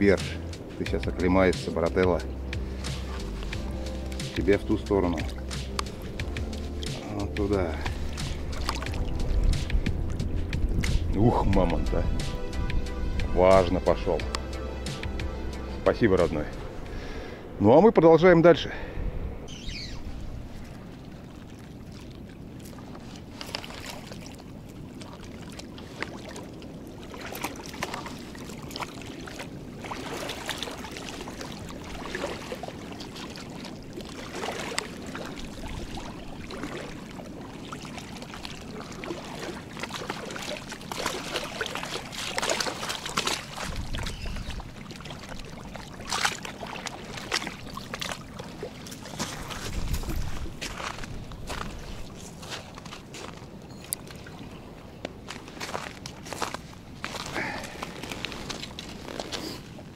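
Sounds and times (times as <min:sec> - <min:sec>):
river water lapping: 0:00.0 - 0:59.9.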